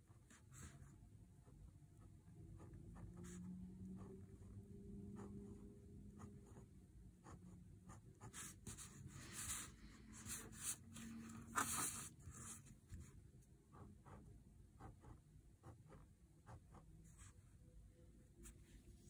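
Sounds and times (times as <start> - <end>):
pen scratching on paper: 0.1 - 1.6, 2.5 - 17.5.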